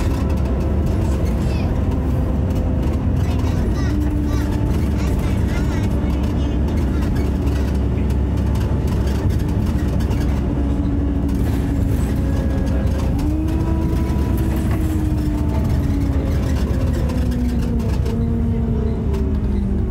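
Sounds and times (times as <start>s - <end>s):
bus diesel engine whining: 0.0s - 19.9s.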